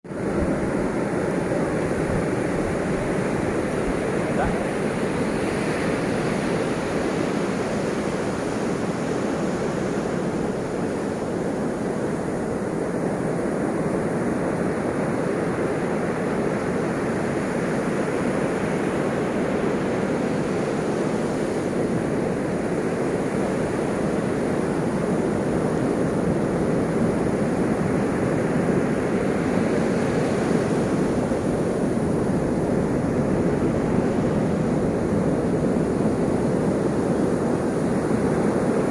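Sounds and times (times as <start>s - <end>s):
ocean waves washing on shore: 0.1s - 38.9s.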